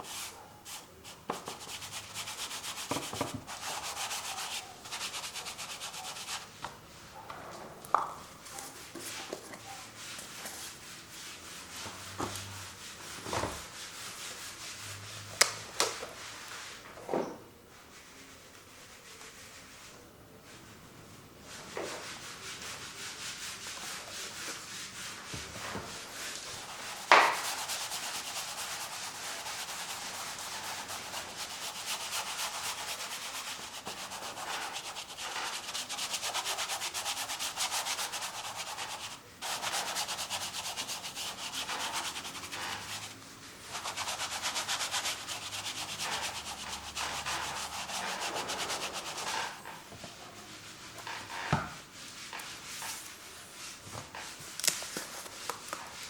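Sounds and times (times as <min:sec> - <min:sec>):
paint tool rubbing on canvas: 0:00.0 - 0:06.6, 0:08.6 - 0:15.4, 0:21.5 - 0:54.4.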